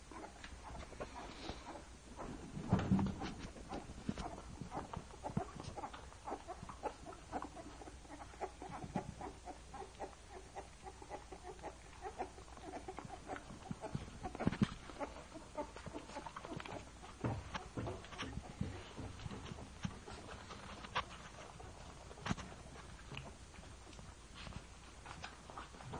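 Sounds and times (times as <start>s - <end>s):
puppies squeaking and grunting: 0.0s - 25.9s
puppies suckling: 0.0s - 25.9s.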